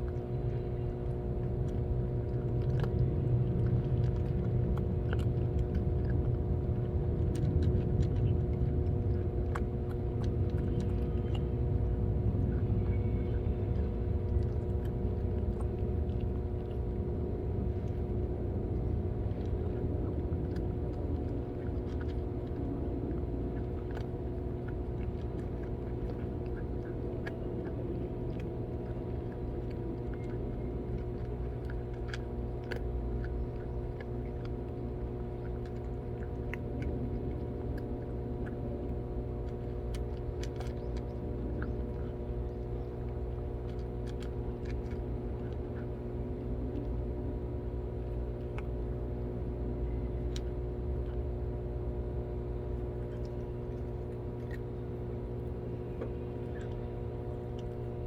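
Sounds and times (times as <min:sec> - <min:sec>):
cats chewing crunchy food: 0:00.0 - 0:58.0
low mechanical hum: 0:00.0 - 0:58.0.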